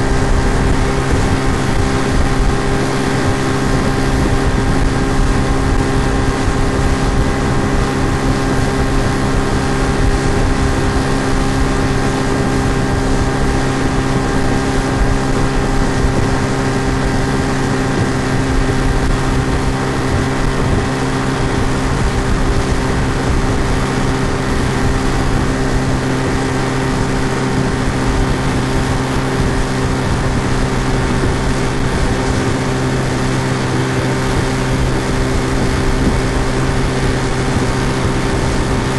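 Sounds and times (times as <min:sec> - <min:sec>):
outboard motor droning: 0:00.0 - 0:38.9.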